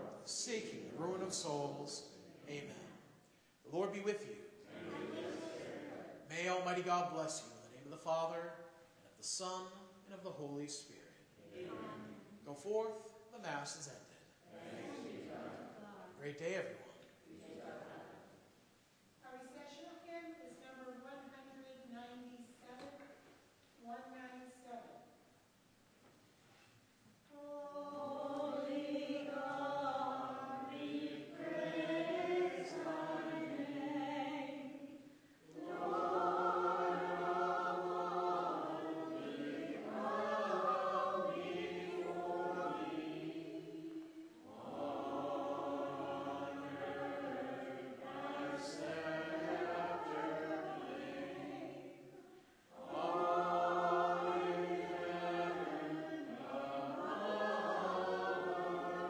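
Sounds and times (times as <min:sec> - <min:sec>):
group singing a hymn: 0:00.0 - 0:18.6, 0:27.3 - 0:59.0.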